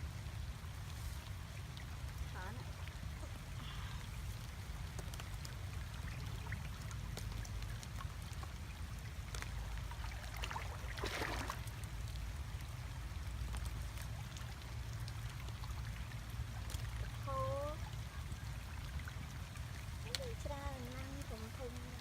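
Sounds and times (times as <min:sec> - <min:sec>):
water drips: 0:00.0 - 0:22.0
water splashing and trickling: 0:00.0 - 0:22.0.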